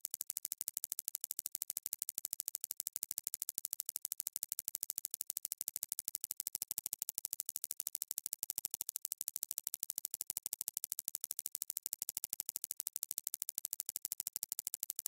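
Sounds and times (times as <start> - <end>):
rapid high-pitched clicks: 0.0 - 15.0.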